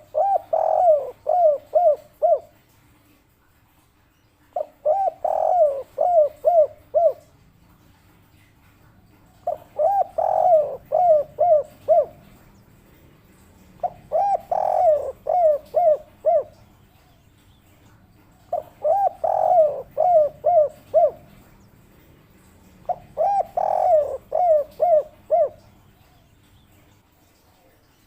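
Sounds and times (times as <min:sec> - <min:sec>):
dove cooing: 0:00.0 - 0:02.7, 0:04.5 - 0:07.8, 0:09.1 - 0:17.2, 0:17.9 - 0:26.3.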